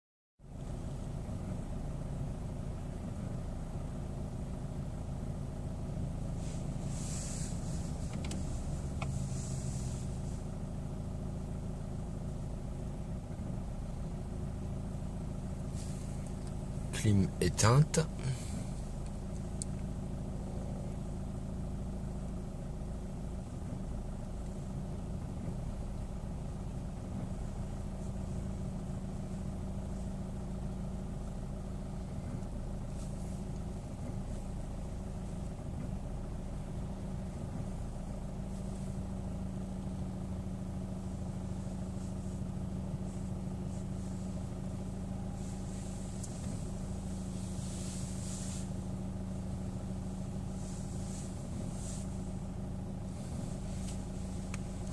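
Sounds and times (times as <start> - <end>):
car engine idling: 0.4 - 54.9.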